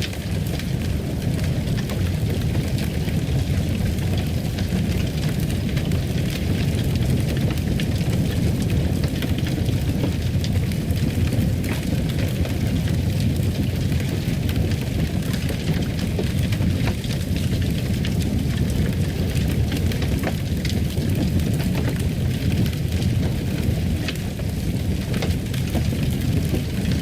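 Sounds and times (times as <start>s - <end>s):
fire burning rumble: 0.0s - 27.0s
fire crackles and pops: 0.0s - 27.0s.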